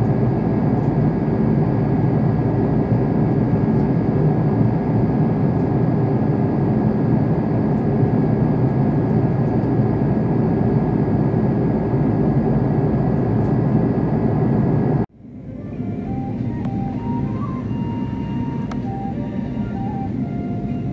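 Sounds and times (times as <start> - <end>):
engine and airflow roar: 0.0 - 20.9
faint steady whine: 0.0 - 20.9.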